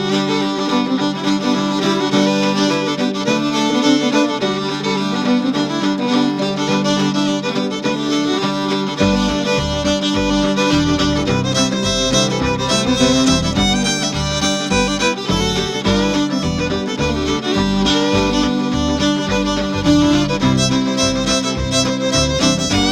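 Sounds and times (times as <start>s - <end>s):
fiddle music with bass and beat: 0.0s - 22.9s.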